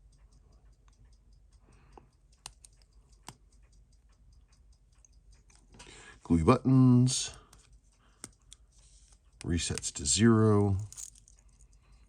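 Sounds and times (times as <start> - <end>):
sharp watch clicks: 0.0 - 5.8, 6.6 - 12.0
watch ticking: 0.0 - 12.0.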